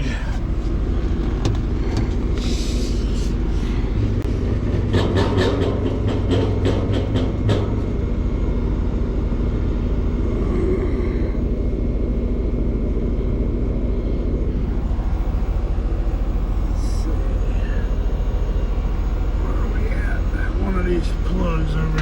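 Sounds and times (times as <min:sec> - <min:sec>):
air conditioner unit humming: 0:00.0 - 0:22.0.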